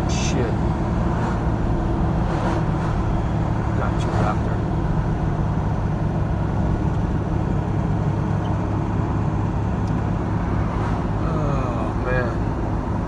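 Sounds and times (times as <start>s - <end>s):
tyre and road noise: 0.0s - 13.0s
vehicle engine hum: 0.0s - 13.0s.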